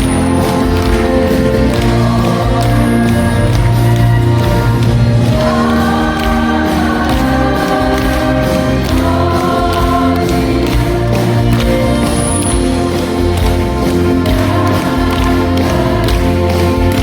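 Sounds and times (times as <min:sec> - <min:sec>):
choir singing folk song: 0:00.0 - 0:17.0
instrumental accompaniment: 0:00.0 - 0:17.0.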